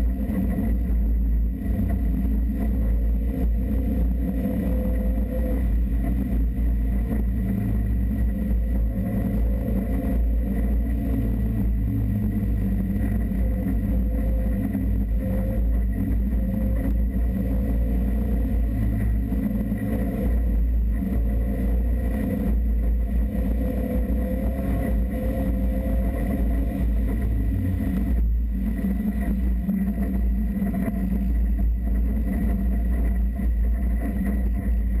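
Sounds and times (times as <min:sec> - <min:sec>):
off-road vehicle engine rumble: 0:00.0 - 0:35.0.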